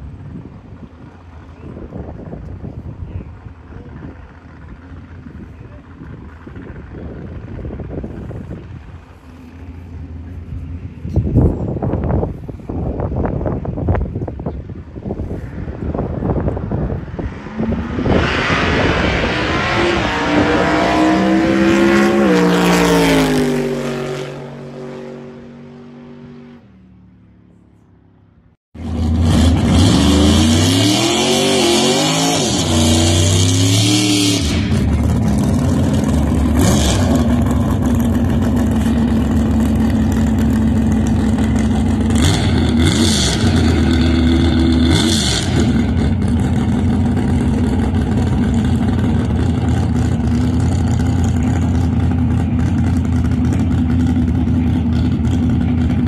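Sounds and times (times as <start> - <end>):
truck engine accelerating hard: 0.0 - 27.6, 28.8 - 56.0.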